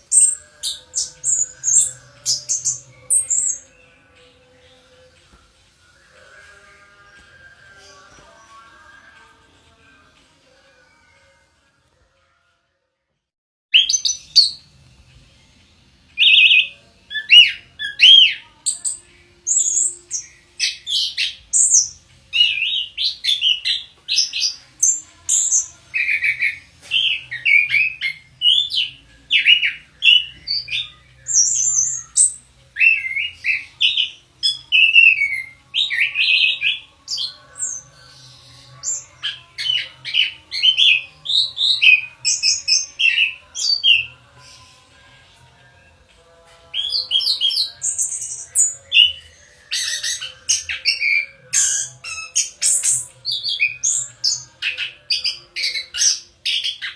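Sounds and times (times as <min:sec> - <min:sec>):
thrush singing: 0:00.0 - 0:12.7, 0:13.7 - 0:56.9.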